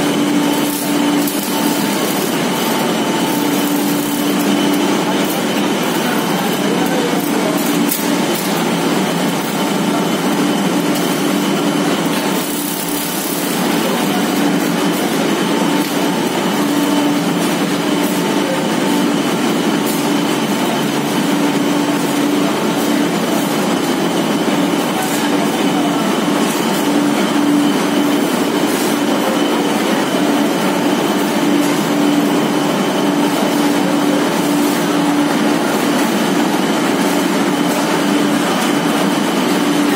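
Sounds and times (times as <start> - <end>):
machinery mechanical drone: 0.0 - 39.9.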